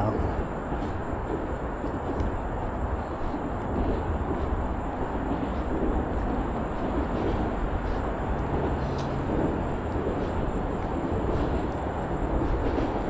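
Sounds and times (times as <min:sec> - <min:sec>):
light footsteps on trail: 0:00.0 - 0:13.0
low outdoor rumble: 0:00.0 - 0:13.0.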